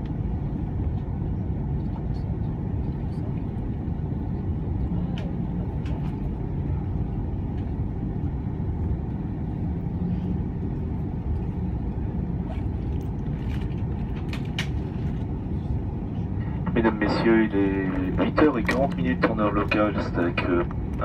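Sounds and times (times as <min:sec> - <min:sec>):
airflow over fuselage: 0:00.0 - 0:21.0
jet engines rumbling: 0:00.0 - 0:21.0.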